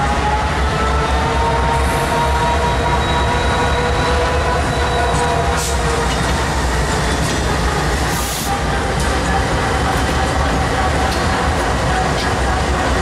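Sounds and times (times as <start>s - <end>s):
diesel locomotive engine rumble: 0.0s - 13.0s
train wheels on rails: 0.0s - 13.0s.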